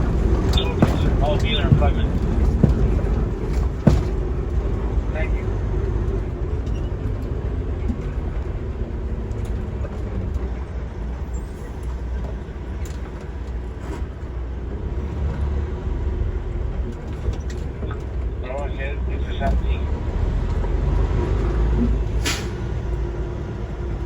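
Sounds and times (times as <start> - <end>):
diesel truck engine rumble: 0.0 - 24.0.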